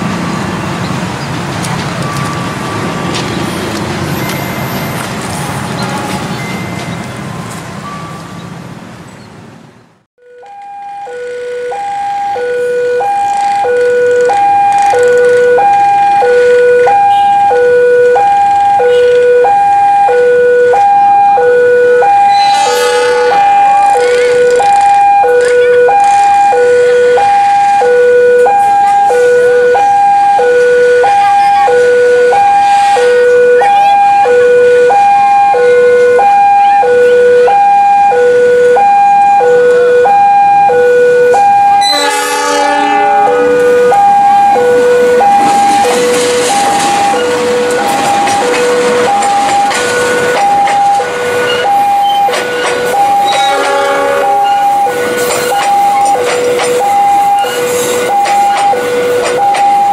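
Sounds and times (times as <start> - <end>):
level crossing two-tone alarm: 10.2 - 59.9.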